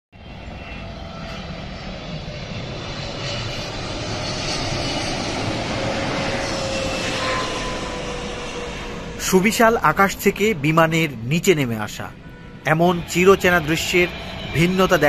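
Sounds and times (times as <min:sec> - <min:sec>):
jet airliner engine noise: 0:00.2 - 0:15.0.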